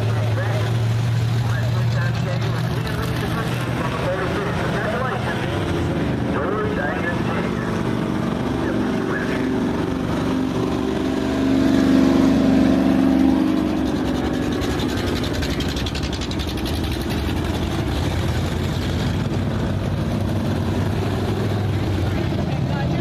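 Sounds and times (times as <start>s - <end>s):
race car engines: 0.0s - 23.0s.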